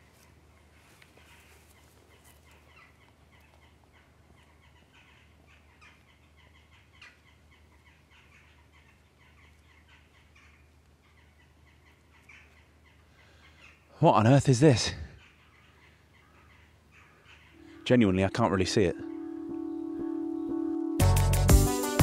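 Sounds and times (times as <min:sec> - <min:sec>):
flock of birds chirping: 0:00.0 - 0:21.5.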